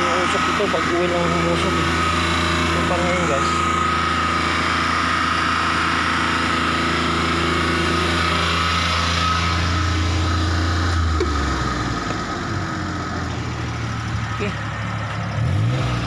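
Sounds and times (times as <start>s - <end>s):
truck engine idling with whine: 0.0s - 16.0s.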